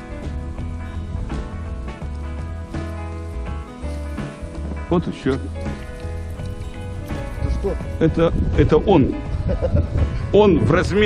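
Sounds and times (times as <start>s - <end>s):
steady low bass: 0.0s - 11.0s.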